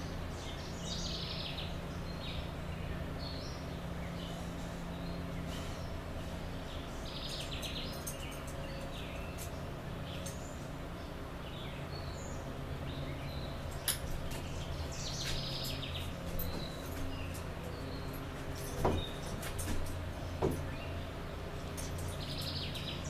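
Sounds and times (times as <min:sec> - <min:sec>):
low background hum: 0:00.0 - 0:23.0
songbirds chirping: 0:00.0 - 0:23.0.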